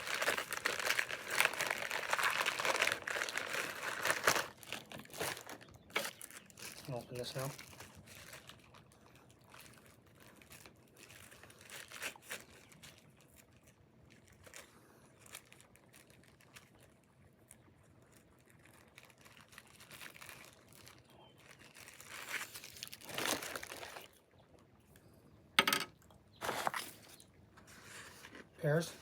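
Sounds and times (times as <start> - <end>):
packaging ripping: 0.0 - 17.0, 18.1 - 24.2, 26.4 - 28.5
plastic packaging crinkling: 0.0 - 24.4, 25.6 - 29.0.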